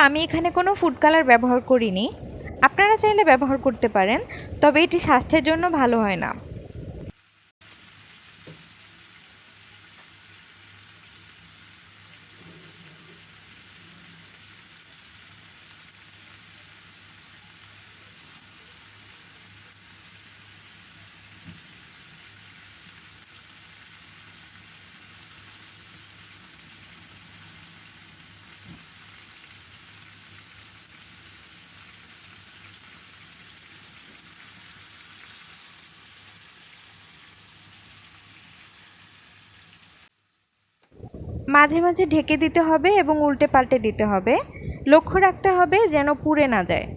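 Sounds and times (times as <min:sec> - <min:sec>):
chicken sizzling in oil: 0:00.0 - 0:42.0.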